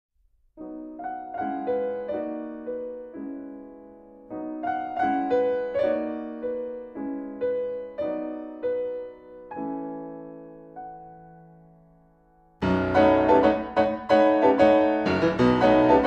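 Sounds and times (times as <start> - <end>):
slow solo piano melody: 0.6 - 16.0.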